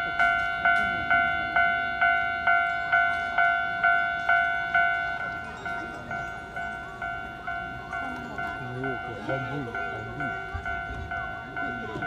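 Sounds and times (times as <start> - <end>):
level crossing bell ringing: 0.0 - 12.0.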